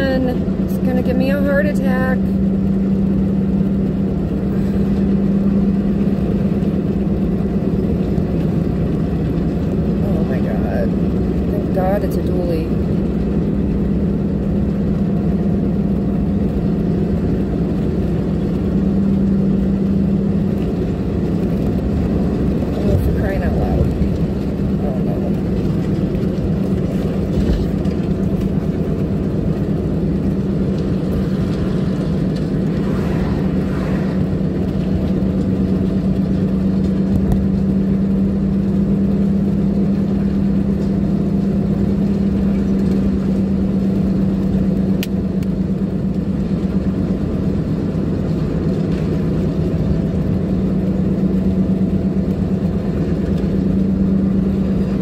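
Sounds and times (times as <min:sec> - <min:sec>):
car engine and tyre drone: 0:00.0 - 0:55.0.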